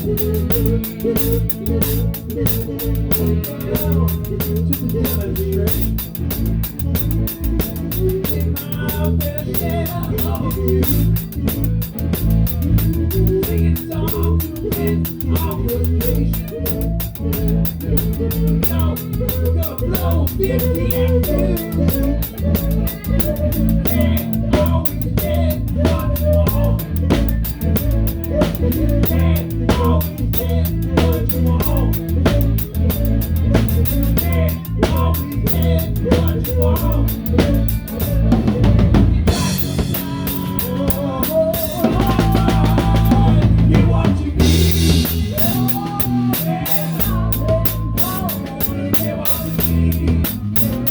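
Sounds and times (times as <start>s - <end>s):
loud drum kit beat: 0.0s - 50.9s
rock band playing: 0.0s - 50.9s.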